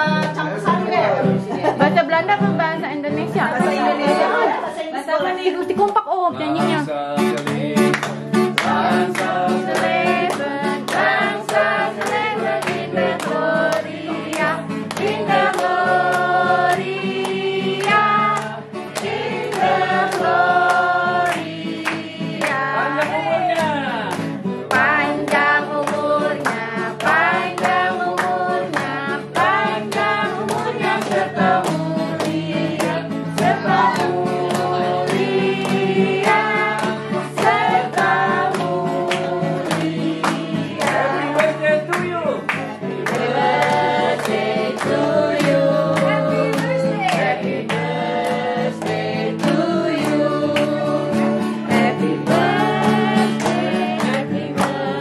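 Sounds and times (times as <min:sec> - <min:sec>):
people clapping: 0:00.0 - 0:00.8, 0:05.6 - 0:06.1, 0:07.2 - 0:55.0
group singing: 0:00.0 - 0:05.7, 0:06.4 - 0:55.0
acoustic guitar: 0:00.0 - 0:55.0.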